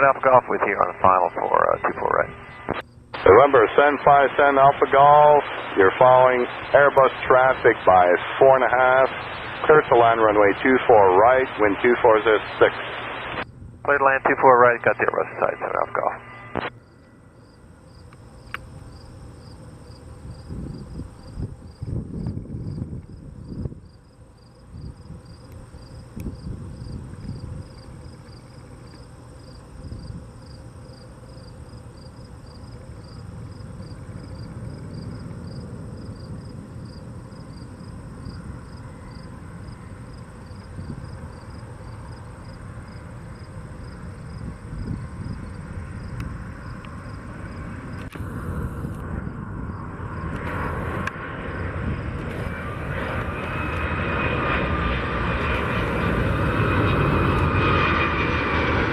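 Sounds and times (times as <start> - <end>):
jet engines roaring: 0.0 - 23.9, 32.3 - 58.9
crickets chirping: 0.0 - 58.0.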